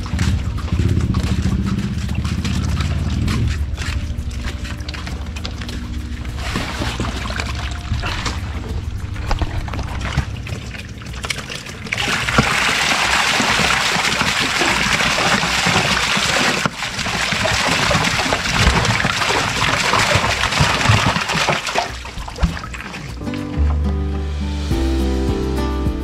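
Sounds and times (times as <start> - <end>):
water pouring and splashing: 0.0 - 24.0.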